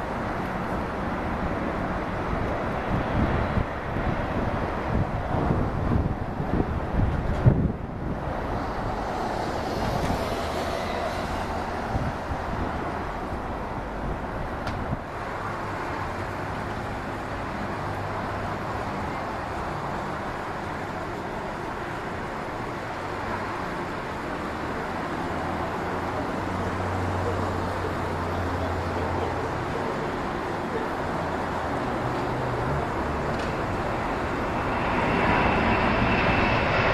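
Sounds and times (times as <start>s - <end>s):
jet engine roar: 0.0s - 36.9s.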